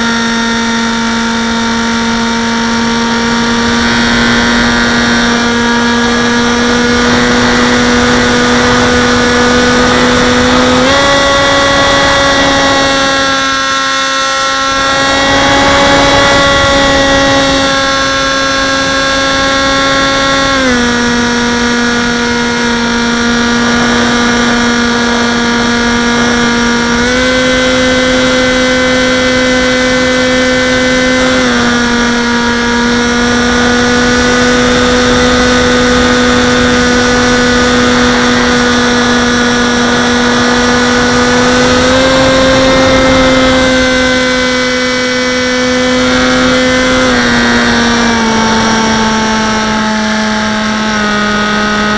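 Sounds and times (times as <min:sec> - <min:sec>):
model plane motor buzzing whine: 0:00.0 - 0:51.9.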